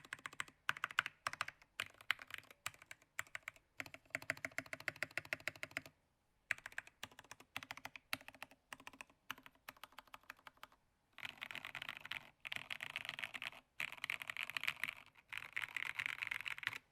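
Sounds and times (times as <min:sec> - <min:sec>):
computer keyboard typing: 0:00.0 - 0:05.9, 0:06.5 - 0:16.9.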